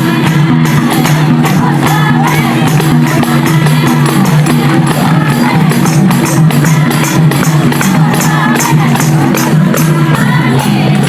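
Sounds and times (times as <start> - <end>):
jingling percussion: 0.0 - 11.0
loud dance music with beat: 0.0 - 11.0
repeating bass line: 0.0 - 11.0.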